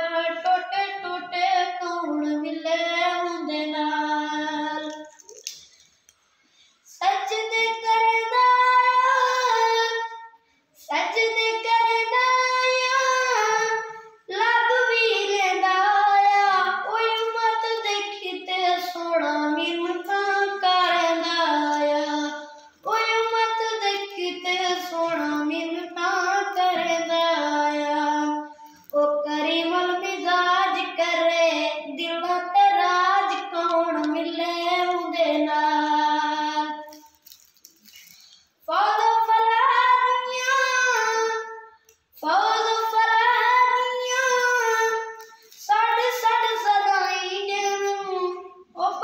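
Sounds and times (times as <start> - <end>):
boy singing devotional poetry: 0.0 - 6.0, 6.6 - 49.0.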